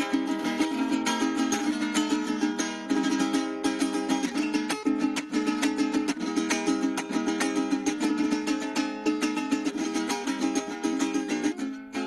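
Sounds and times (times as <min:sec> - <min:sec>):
small guitar plucked and strummed: 0:00.0 - 0:12.0.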